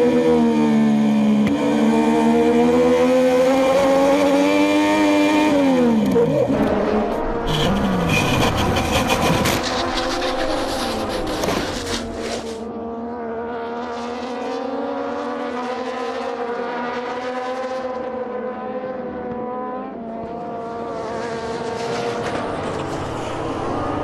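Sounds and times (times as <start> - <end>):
racing engines at high revs: 0.0 - 24.0.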